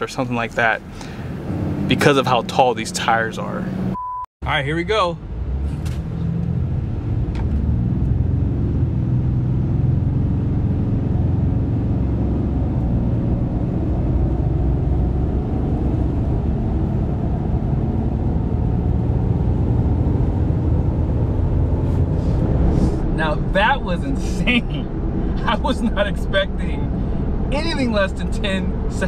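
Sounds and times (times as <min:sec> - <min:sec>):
diesel engine accelerating: 0:00.0 - 0:04.0, 0:04.8 - 0:29.0
road and tyre noise: 0:00.0 - 0:29.0.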